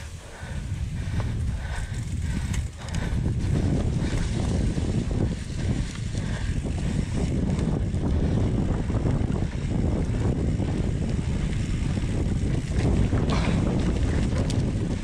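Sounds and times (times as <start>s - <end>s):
mountain bike rumbling and rattling: 0.0s - 15.0s
wind rushing over microphone: 0.0s - 15.0s.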